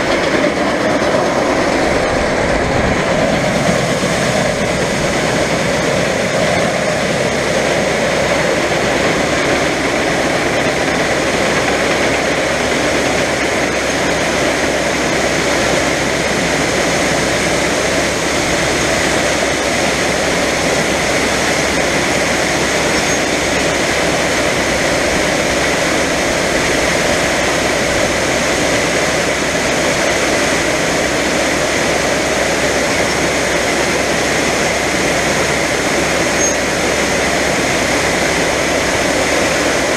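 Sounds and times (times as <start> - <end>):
diesel engine droning under load: 0.0 - 39.9.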